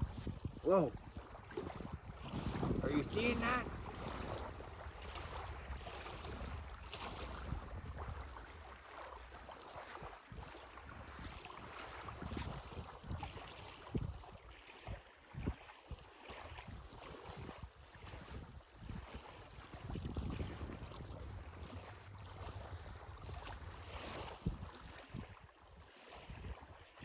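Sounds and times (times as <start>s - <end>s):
small waves washing on beach: 0.0s - 27.0s
wind buffeting microphone: 0.0s - 27.0s.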